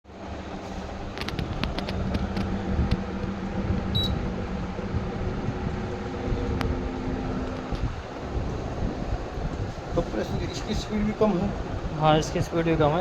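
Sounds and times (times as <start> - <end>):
air conditioner humming: 0.1 - 13.0.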